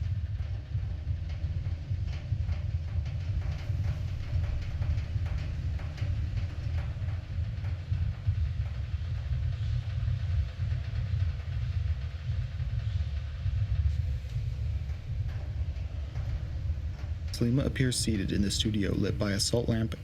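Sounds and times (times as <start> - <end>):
deep low rumble: 0.0 - 20.0
soft hiss: 0.0 - 20.0.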